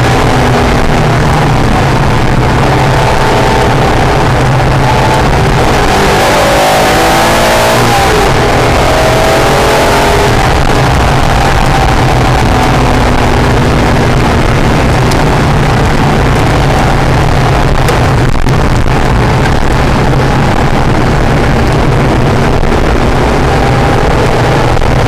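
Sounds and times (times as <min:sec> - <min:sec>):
sports car engine revving: 0:00.0 - 0:25.0
wind and road noise: 0:00.0 - 0:25.0.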